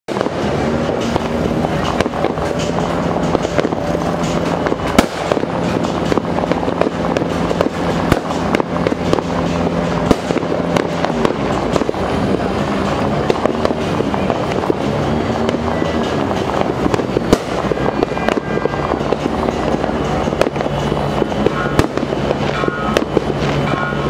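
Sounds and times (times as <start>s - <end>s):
fireworks and firecrackers banging: 0.1s - 24.0s.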